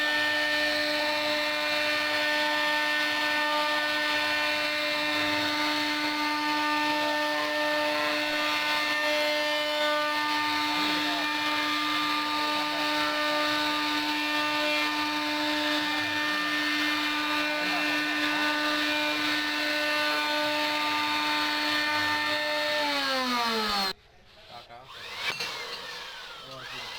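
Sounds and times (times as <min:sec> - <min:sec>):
bit cutting into wood: 0:00.0 - 0:24.0, 0:24.8 - 0:26.9
router spindle whining: 0:00.0 - 0:24.0, 0:24.9 - 0:26.9.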